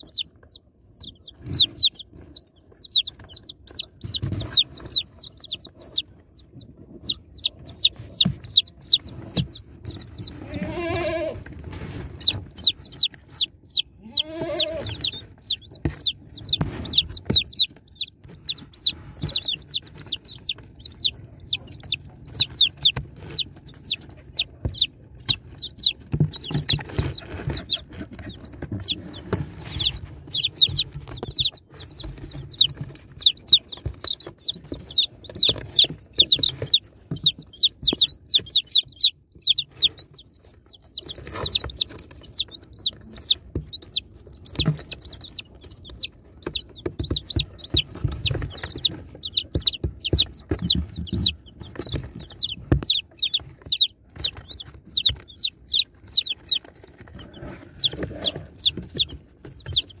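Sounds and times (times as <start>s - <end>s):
chicks peeping: 0.0s - 60.0s.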